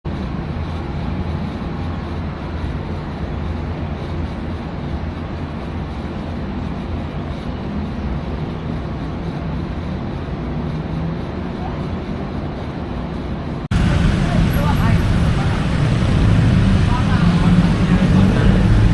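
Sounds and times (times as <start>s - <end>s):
vehicle engine rumbling: 0.1s - 18.9s.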